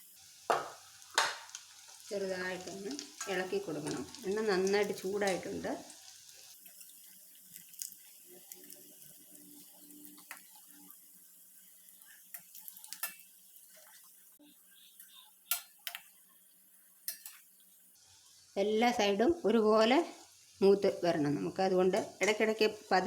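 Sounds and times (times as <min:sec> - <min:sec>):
oil crackles and pops: 0:00.0 - 0:18.5
food frying in hot oil: 0:00.0 - 0:23.0.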